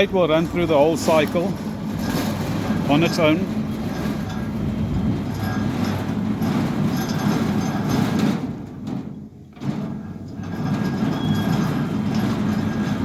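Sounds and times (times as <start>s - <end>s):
sliding gate motor running: 0.0s - 13.0s.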